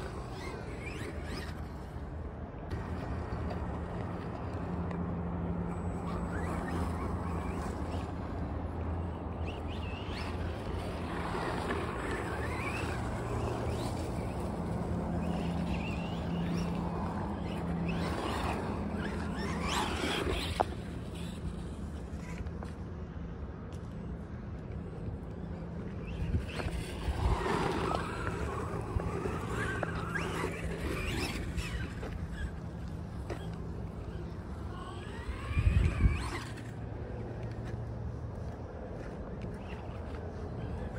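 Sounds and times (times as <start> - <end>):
electric rc truck motor whining: 0.0 - 22.9, 24.8 - 37.8, 39.4 - 40.9
low wind rumble: 0.0 - 40.9.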